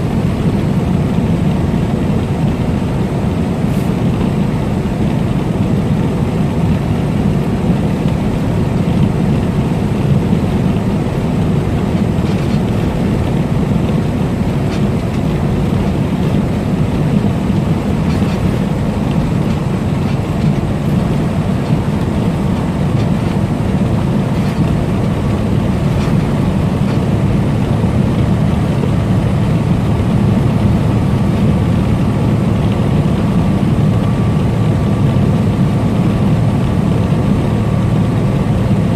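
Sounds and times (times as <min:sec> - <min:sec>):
diesel truck engine drone: 0:00.0 - 0:38.9
road noise: 0:00.0 - 0:38.9.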